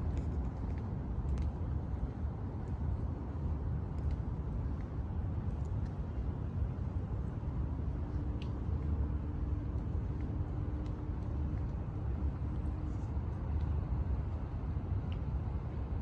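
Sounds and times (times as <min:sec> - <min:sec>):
light ticks: 0:00.0 - 0:16.0
low rumble of city ambience: 0:00.0 - 0:16.0.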